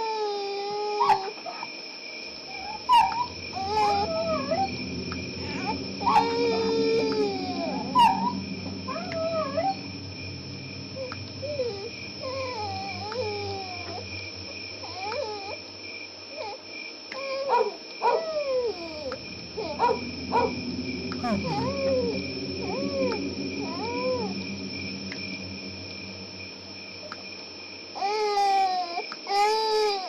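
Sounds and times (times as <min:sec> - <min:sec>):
dogs whining and howling: 0:00.0 - 0:01.7, 0:02.3 - 0:15.6, 0:16.4 - 0:27.3, 0:28.0 - 0:30.0
low hum: 0:02.0 - 0:28.5
high-pitched drone: 0:02.1 - 0:28.8.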